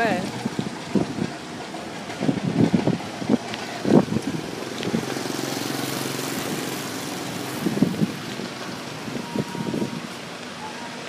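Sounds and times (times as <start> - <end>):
street traffic: 0.0 - 11.0
vehicle engine passing close: 0.0 - 11.0.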